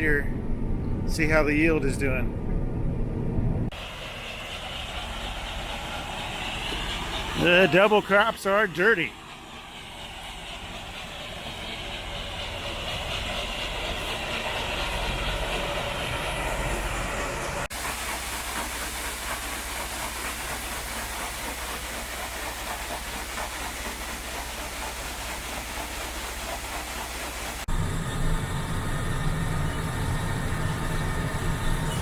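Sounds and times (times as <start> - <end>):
combine harvester running: 0.6 - 32.0.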